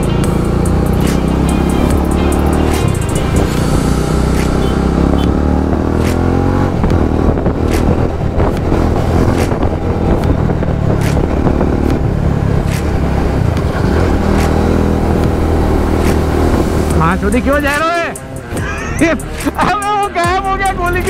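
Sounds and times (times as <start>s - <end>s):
motorcycle engine revving: 0.0s - 19.7s.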